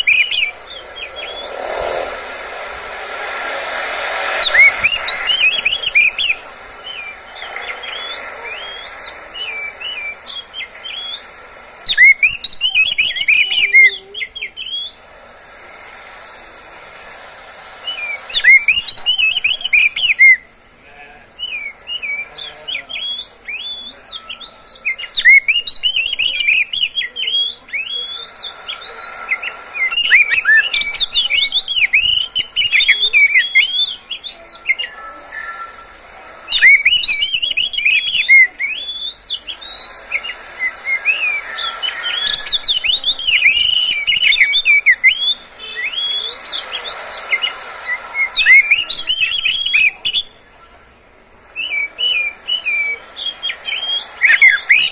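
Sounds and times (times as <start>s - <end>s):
bird singing whistled phrases: 0.0s - 2.0s, 3.3s - 15.1s, 17.8s - 20.5s, 21.4s - 50.4s, 51.6s - 54.9s.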